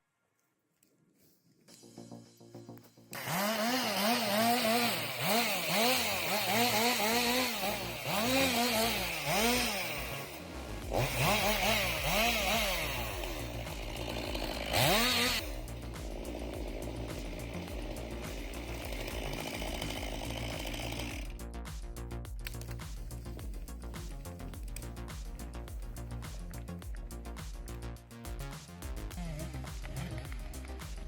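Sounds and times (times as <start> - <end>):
chainsaw cutting wood: 3.1 - 21.4, 22.5 - 27.8, 29.1 - 31.0.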